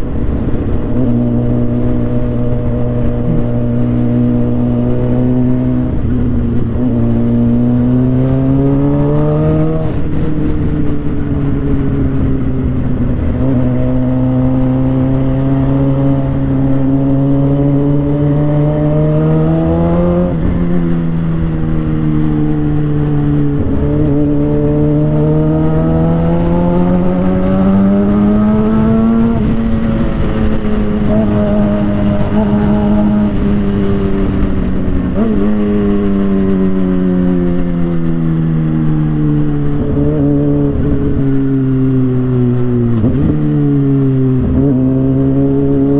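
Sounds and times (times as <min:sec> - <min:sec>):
motorcycle engine accelerating: 0:00.0 - 0:45.9
wind rumble on microphone: 0:00.0 - 0:45.9.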